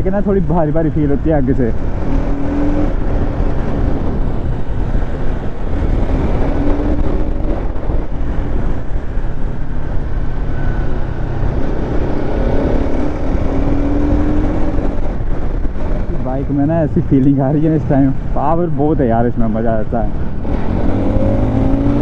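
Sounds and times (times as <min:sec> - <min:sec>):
wind and road noise: 0:00.0 - 0:22.0
motorcycle engine accelerating: 0:01.0 - 0:18.9, 0:20.1 - 0:22.0.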